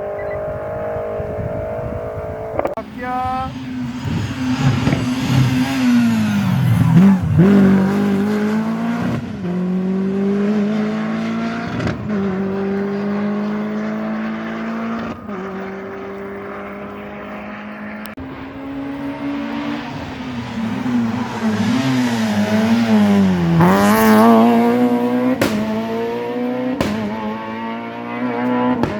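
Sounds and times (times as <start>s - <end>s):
rally car engine braking and accelerating: 0.0s - 28.9s.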